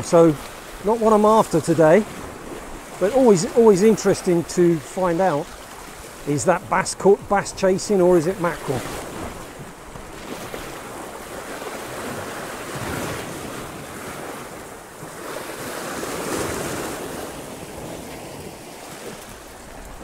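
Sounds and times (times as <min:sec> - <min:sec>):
waves breaking against rocks: 0:00.0 - 0:20.0.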